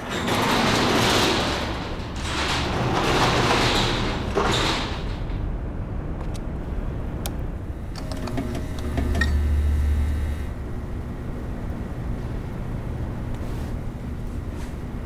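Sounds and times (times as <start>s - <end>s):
low lights hum: 1.5s - 15.0s.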